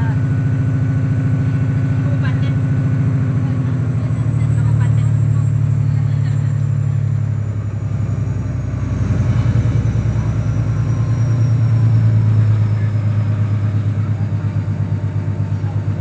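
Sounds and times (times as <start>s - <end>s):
train drone inside carriage: 0.0s - 16.0s.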